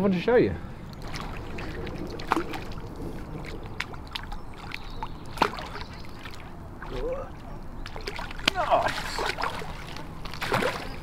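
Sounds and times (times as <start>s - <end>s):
fish splashing in water: 0.9s - 11.0s.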